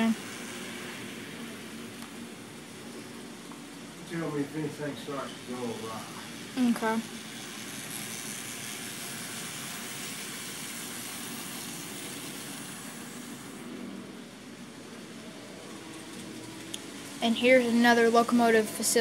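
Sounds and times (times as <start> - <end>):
model trains whirring past: 0.0 - 19.0.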